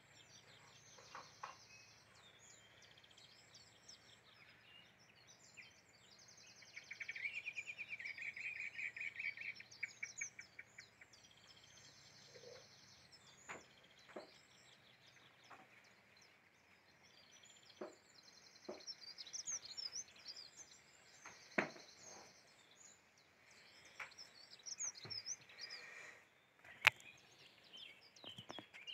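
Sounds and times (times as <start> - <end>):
songbirds singing and chirping: 0.0 - 28.9.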